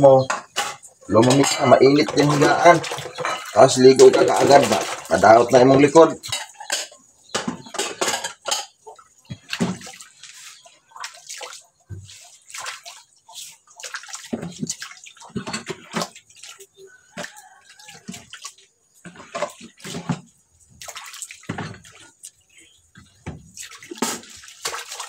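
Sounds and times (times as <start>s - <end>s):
water splashing in a basin: 0.0s - 25.0s.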